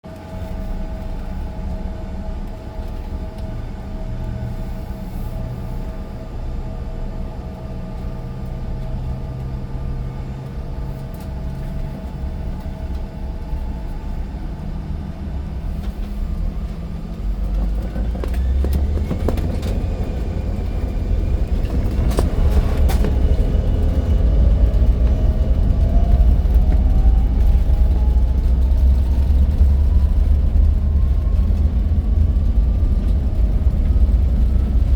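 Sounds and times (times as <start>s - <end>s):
jet engines whining: 0.3s - 34.9s.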